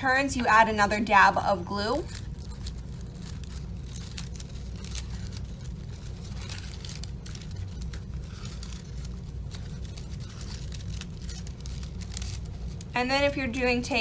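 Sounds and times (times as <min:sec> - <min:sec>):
paper rustling and crinkling: 0:00.0 - 0:14.0
steady low hum: 0:00.0 - 0:14.0.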